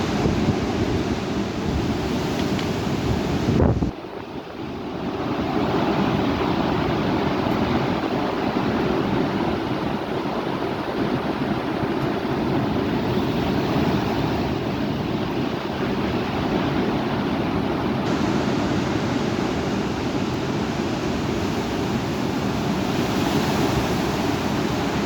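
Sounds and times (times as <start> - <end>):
storm wind rushing: 0.0 - 25.0.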